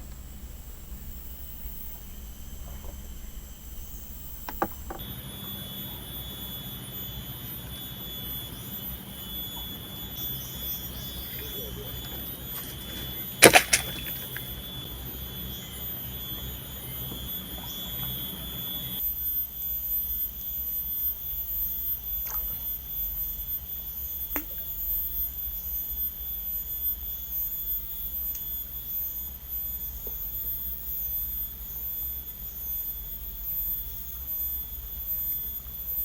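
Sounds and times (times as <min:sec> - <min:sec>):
insects high-pitched whine: 0:00.0 - 0:36.0
second steady insect tone: 0:00.0 - 0:36.0
short insect chirps: 0:00.0 - 0:36.0.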